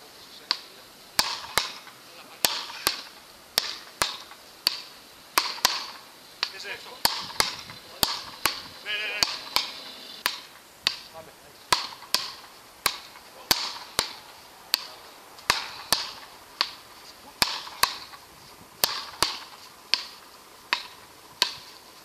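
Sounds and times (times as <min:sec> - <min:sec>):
wooden paddles hitting ball: 0:00.5 - 0:11.1, 0:11.7 - 0:21.8.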